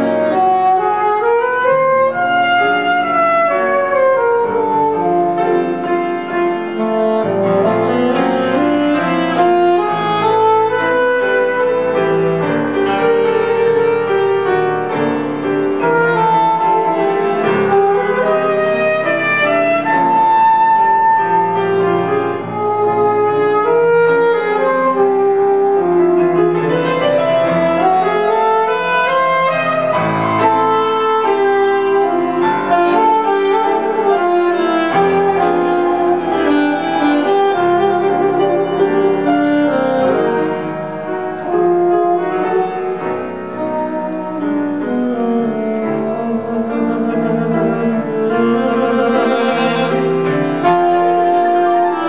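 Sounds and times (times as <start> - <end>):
grand piano: 0.0 - 52.0
saxophone: 0.0 - 52.0.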